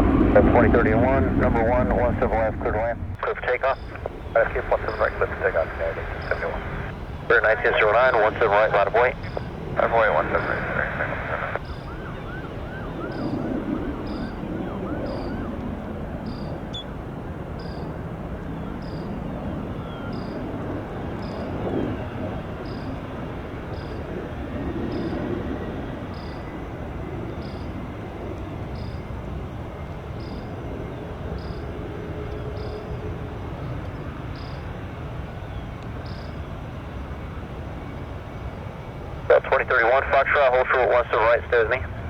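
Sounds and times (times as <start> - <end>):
jet engine noise: 0.0 - 42.0.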